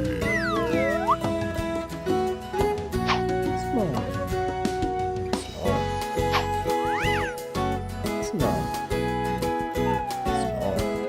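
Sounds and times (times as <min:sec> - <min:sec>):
cartoon background music: 0:00.0 - 0:11.0.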